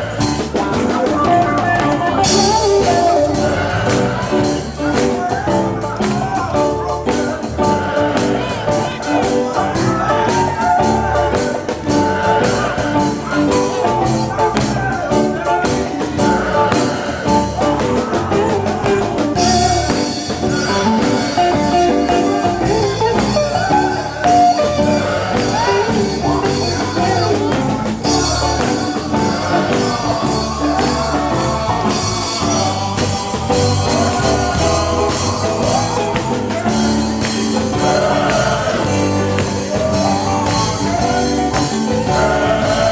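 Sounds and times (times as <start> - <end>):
drum beat: 0.0 - 42.9
gospel singing: 0.0 - 42.9
guitar: 0.0 - 42.9.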